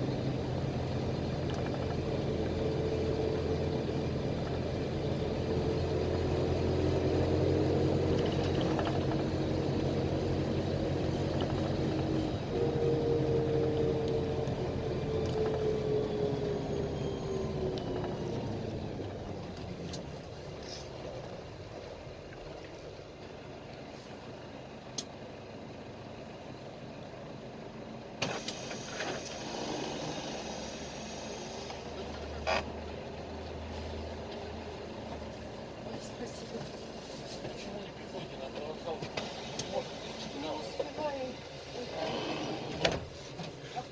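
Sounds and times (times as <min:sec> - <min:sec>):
bus diesel engine: 0:00.0 - 0:43.9.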